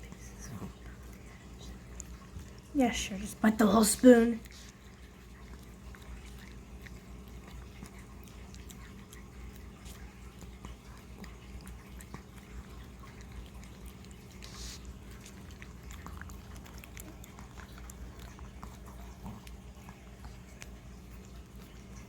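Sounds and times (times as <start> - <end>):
low steady hum: 0.0 - 22.0
puppy licking and chewing: 0.0 - 22.0.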